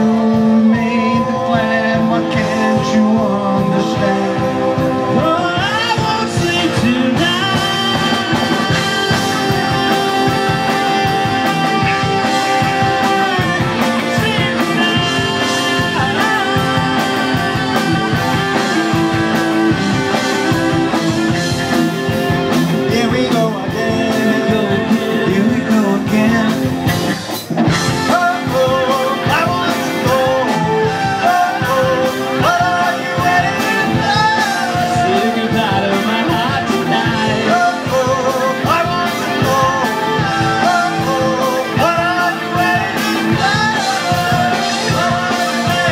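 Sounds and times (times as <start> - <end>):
person singing: 0.0 - 27.0, 27.7 - 45.9
bass guitar: 0.0 - 45.9
distorted electric guitars: 0.0 - 45.9
drum kit: 0.0 - 45.9.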